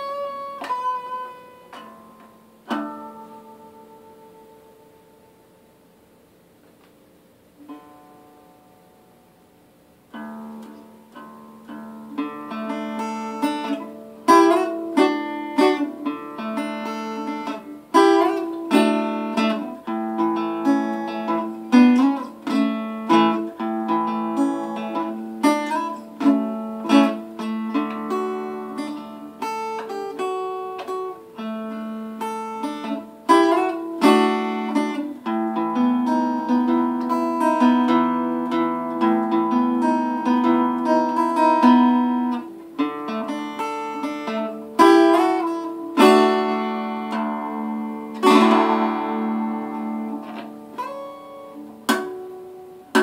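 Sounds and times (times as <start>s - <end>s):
acoustic guitar picking and strumming: 0.0s - 5.5s, 10.0s - 53.0s.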